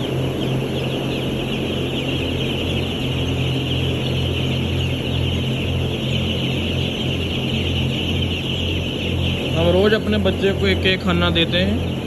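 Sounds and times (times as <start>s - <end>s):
chicks peeping: 0.0s - 12.0s
exhaust fans humming: 0.0s - 12.0s.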